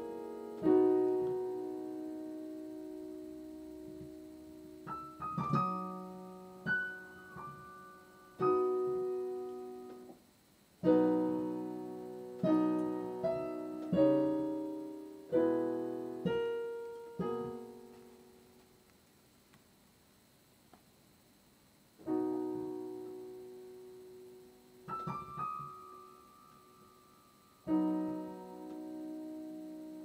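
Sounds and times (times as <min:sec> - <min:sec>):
piano playing slow chords: 0:00.0 - 0:10.1, 0:10.8 - 0:18.6, 0:22.0 - 0:30.0.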